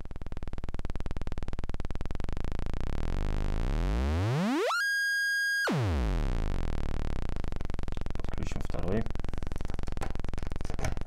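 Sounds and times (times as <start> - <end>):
square-wave synthesizer buzz sweeping: 0.0 - 9.6.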